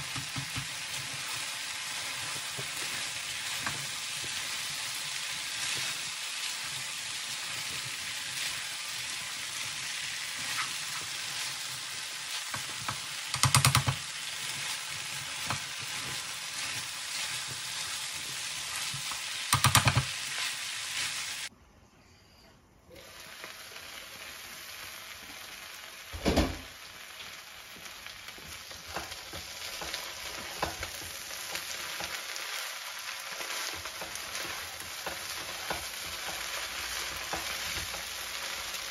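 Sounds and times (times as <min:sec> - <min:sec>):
spatula scraping and knocking pan: 0:00.0 - 0:21.2, 0:28.3 - 0:32.6, 0:33.2 - 0:38.9
stir-fry sizzling in a pan: 0:00.0 - 0:21.5, 0:22.9 - 0:38.9.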